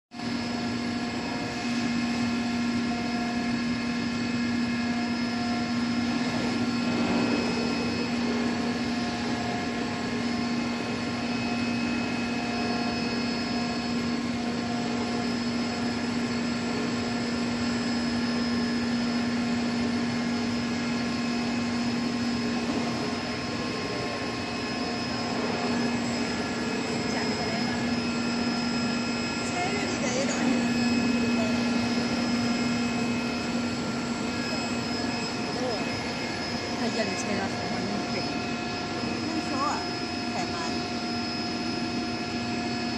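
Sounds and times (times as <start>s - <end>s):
cutting machine drone: 0.2s - 42.9s.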